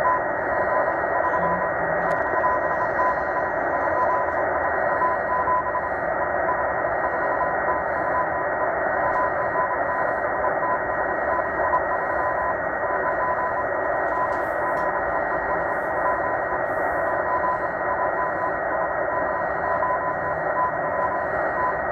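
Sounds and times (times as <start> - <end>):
morse code beeping: 0.0 - 21.9
shortwave radio hiss: 0.0 - 21.9.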